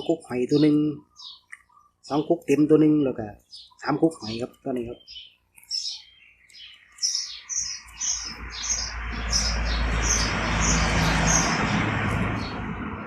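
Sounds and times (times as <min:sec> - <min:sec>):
small bird chirping: 0:00.0 - 0:12.8.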